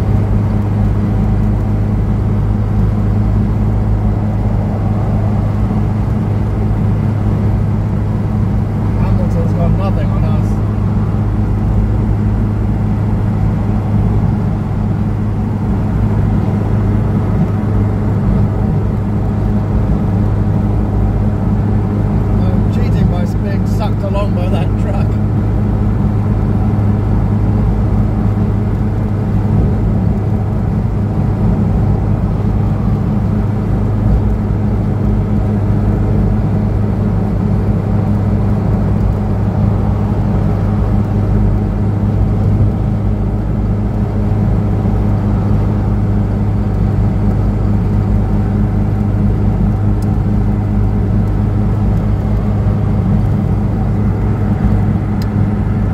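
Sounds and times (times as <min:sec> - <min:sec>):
car engine droning: 0:00.0 - 0:55.9
road and wind noise: 0:00.0 - 0:55.9.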